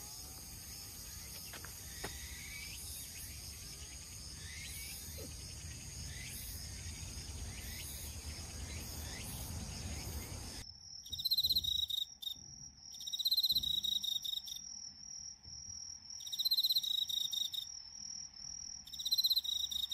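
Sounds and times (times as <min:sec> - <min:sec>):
night insects chirping: 0:00.0 - 0:19.9.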